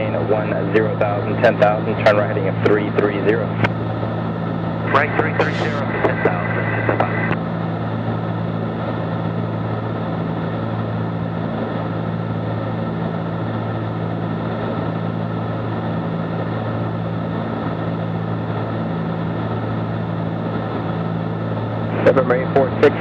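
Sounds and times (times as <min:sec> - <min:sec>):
propeller plane engines droning: 0:00.0 - 0:23.0.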